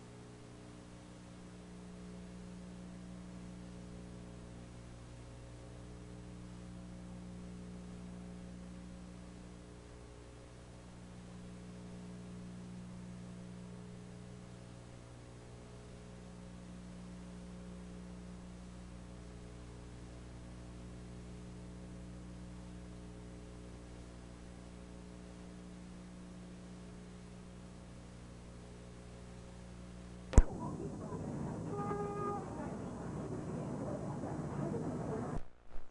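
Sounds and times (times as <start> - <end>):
electrical mains hum: 0.0 - 35.9.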